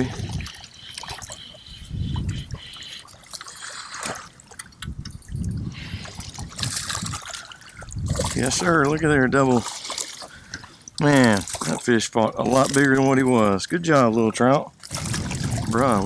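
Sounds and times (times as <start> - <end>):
water splashing and trickling: 0.0 - 16.0.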